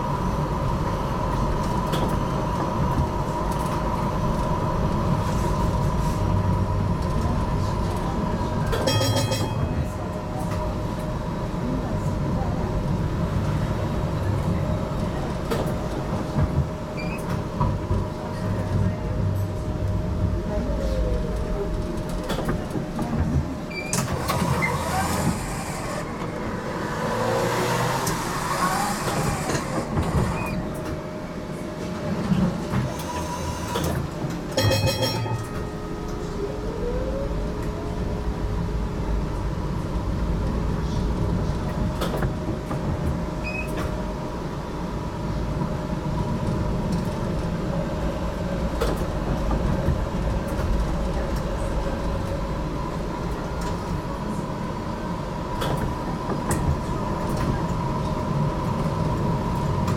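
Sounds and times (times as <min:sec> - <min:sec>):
tram wheels rumbling on track: 0:00.0 - 0:59.9.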